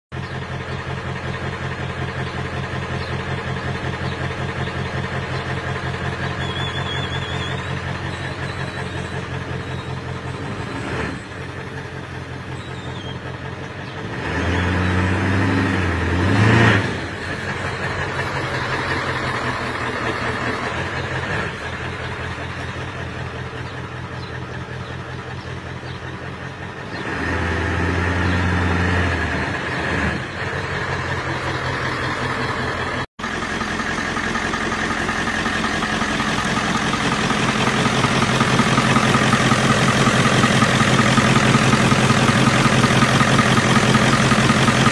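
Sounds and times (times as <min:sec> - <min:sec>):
diesel engine idling: 0:00.1 - 0:44.9.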